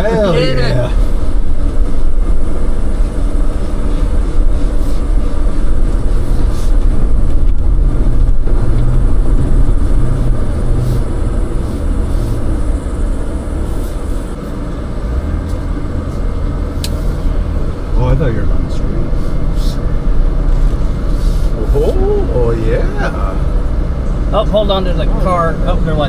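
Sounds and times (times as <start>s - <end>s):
off-road vehicle engine rumble: 0.0s - 26.0s.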